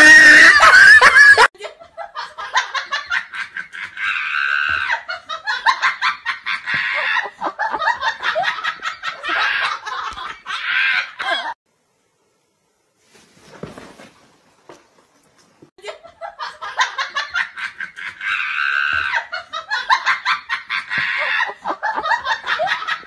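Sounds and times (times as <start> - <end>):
person laughing hard: 0.0 - 11.6, 15.8 - 23.0.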